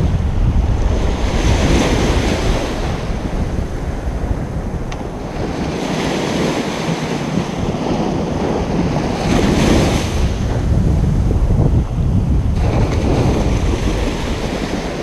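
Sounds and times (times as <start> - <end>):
ocean waves breaking on beach: 0.0 - 15.0
wind rumbling on microphone: 0.0 - 15.0.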